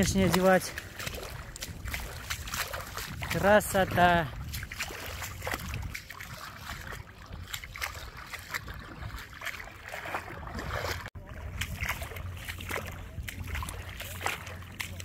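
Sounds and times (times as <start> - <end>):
seawater sloshing and splashing: 0.0 - 15.0.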